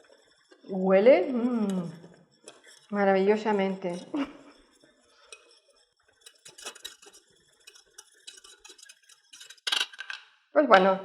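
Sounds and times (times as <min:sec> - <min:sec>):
utensil scraping saucepan: 0:00.0 - 0:10.2.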